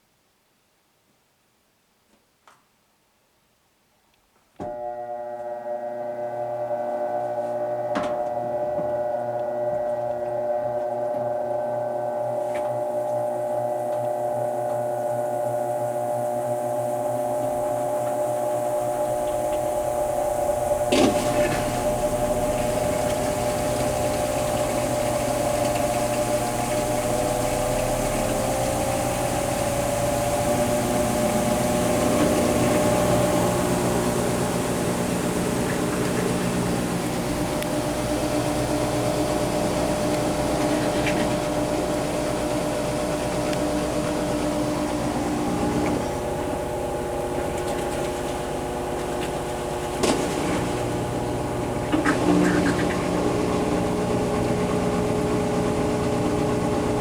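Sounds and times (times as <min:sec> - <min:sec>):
washing machine spinning: 0:04.7 - 0:57.0.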